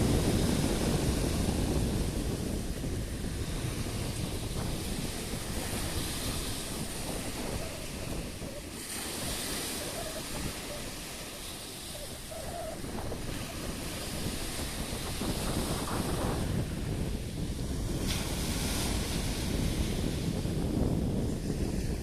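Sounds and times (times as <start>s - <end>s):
waves breaking: 0.0s - 22.0s
wind rumbling on microphone: 0.0s - 22.0s.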